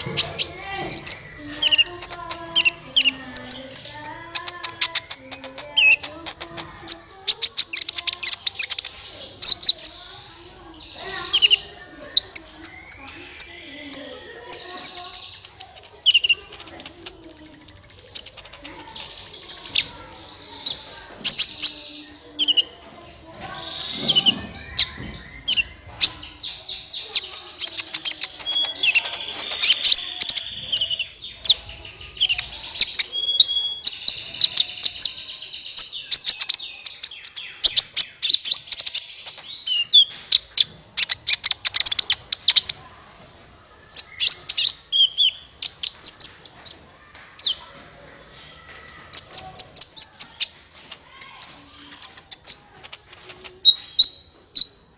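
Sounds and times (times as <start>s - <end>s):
bird chirps and trills: 0.0s - 42.9s, 43.9s - 47.6s, 49.1s - 54.9s.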